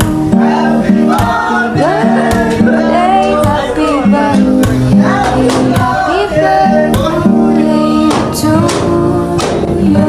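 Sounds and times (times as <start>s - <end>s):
song with guitar and singing: 0.0s - 10.0s.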